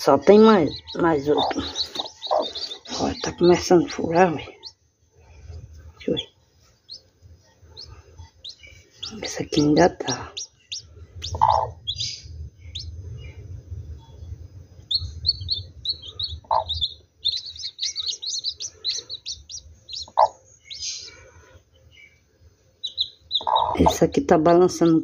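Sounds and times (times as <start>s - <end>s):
chicks peeping: 0.0s - 24.4s.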